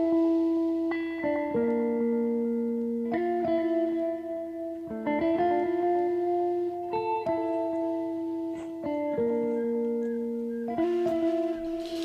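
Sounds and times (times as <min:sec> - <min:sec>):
plucked guitar chords: 0:00.0 - 0:12.0.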